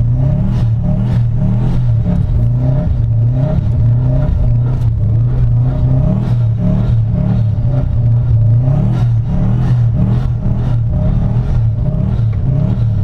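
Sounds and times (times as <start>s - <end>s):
car engine revving in surges: 0.0s - 13.0s.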